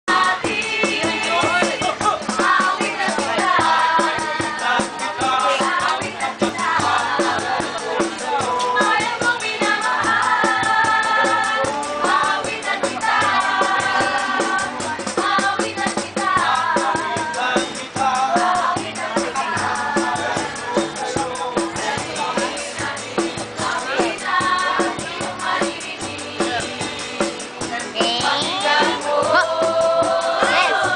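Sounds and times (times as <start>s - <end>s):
acoustic guitars strummed: 0.1s - 30.9s
group singing in chorus: 0.1s - 30.9s.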